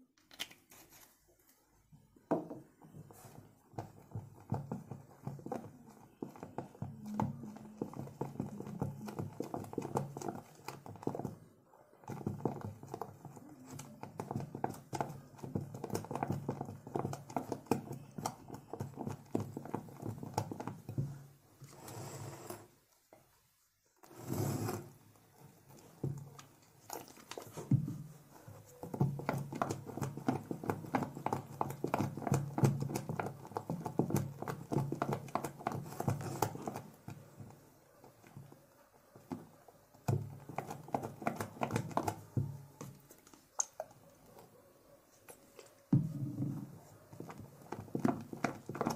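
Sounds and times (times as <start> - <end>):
slime squishing under spatula: 0.2 - 48.9.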